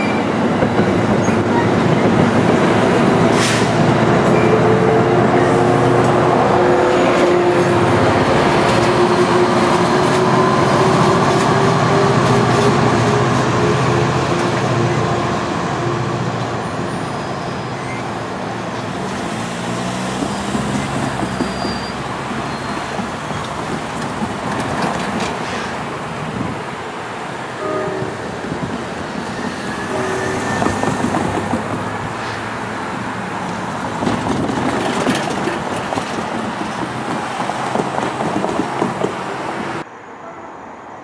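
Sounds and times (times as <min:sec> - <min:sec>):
passenger train passing: 0:00.0 - 0:41.0.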